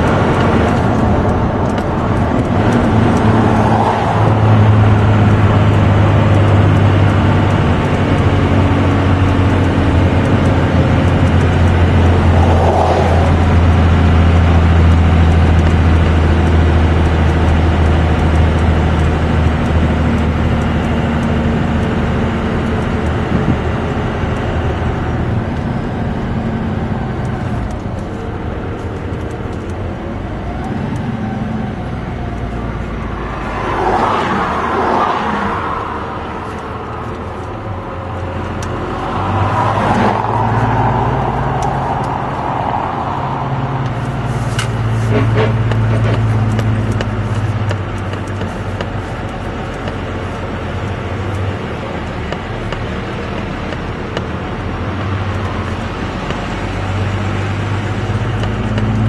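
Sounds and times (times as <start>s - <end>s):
diesel engine droning under load: 0.0s - 59.0s
tyre and road noise: 0.0s - 59.0s.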